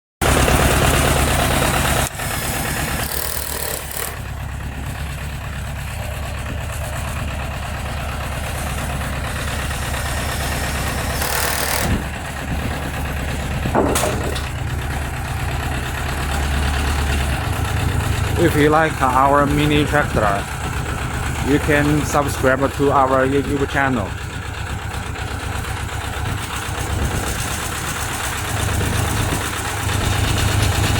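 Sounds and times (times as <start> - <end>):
tractor engine droning: 0.2 - 30.9.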